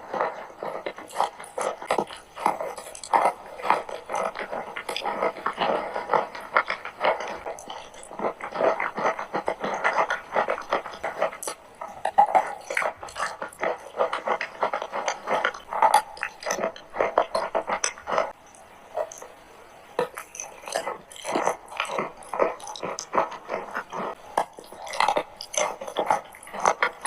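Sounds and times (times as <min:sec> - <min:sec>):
chalk crunching being chewed: 0:00.0 - 0:27.0.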